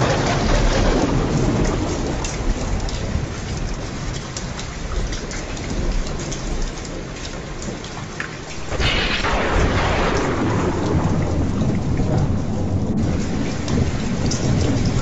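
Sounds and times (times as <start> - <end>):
steady rain: 0.0 - 15.0
thunderclap rumbling: 0.0 - 15.0.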